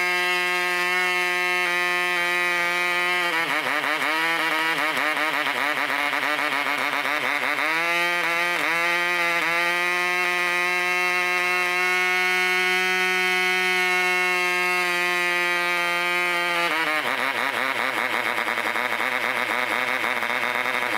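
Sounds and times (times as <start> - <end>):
model engine high-pitched whine: 0.0 - 20.9.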